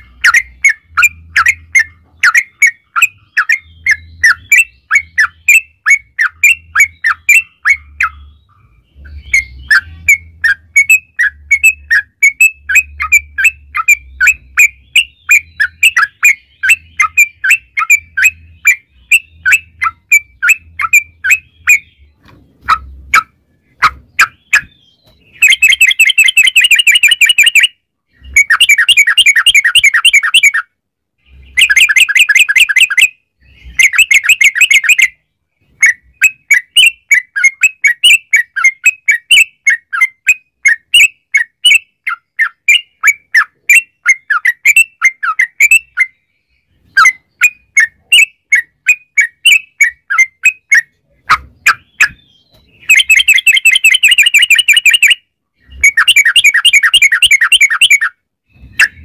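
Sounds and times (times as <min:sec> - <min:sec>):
bird singing rapid trills: 0:00.0 - 0:51.0, 0:51.6 - 0:59.0.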